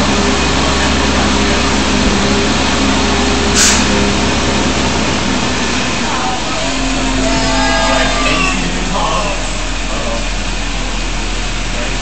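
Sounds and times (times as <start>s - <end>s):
tram rushing through tunnel: 0.0s - 12.0s.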